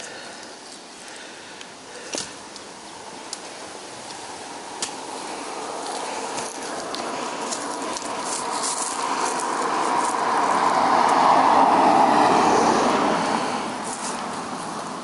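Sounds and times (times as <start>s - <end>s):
car passing on asphalt: 2.7s - 15.0s.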